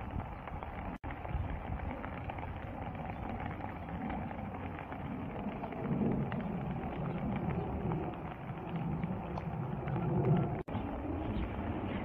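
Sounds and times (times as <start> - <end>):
low rumble: 0.0 - 12.0
rain falling on plants: 0.0 - 12.0.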